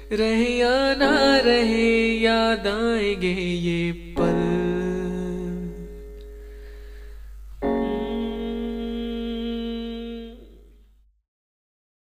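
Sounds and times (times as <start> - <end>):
sustained keyboard chords: 0.0 - 10.8.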